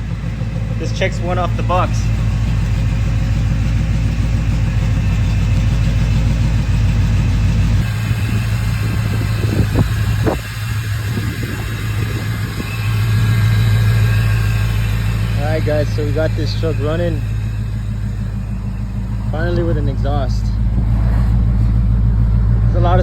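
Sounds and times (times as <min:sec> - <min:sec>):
pickup engine idling: 0:00.0 - 0:23.0.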